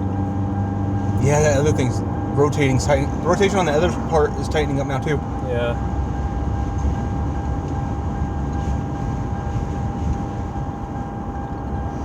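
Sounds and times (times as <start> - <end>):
high whine: 0.0 - 12.0
vehicle engine rumble: 0.0 - 12.0.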